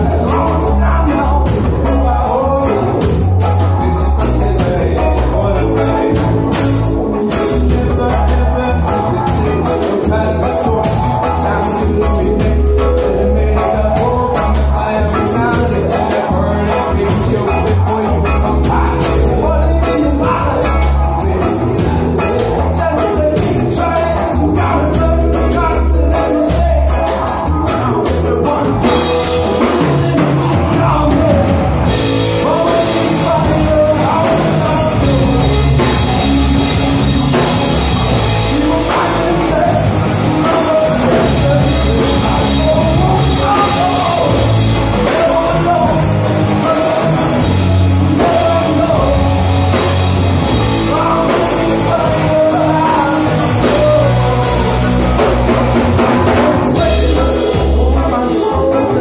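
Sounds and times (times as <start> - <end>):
drum kit: 0.0 - 59.0
electric bass: 0.0 - 59.0
electric guitars: 0.0 - 59.0
person singing: 0.0 - 59.0.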